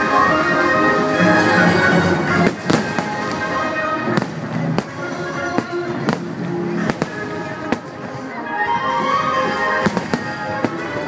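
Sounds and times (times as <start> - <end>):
music soundtrack: 0.0 - 11.0
fireworks bursting: 1.6 - 11.0.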